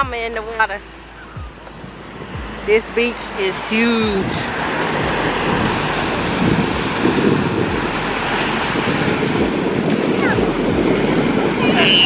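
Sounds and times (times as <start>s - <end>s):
wind buffeting microphone: 0.0s - 12.0s
surf washing on sandy shore: 0.8s - 12.0s.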